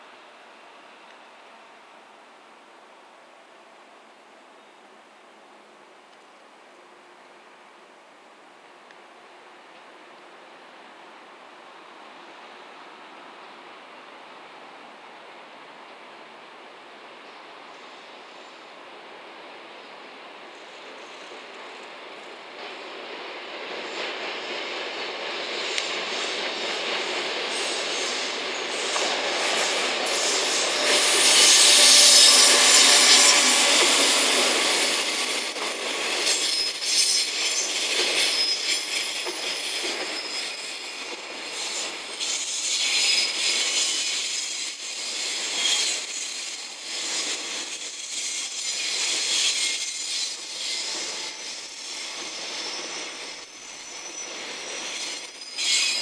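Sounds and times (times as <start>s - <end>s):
electric locomotive passing: 9.3s - 56.0s.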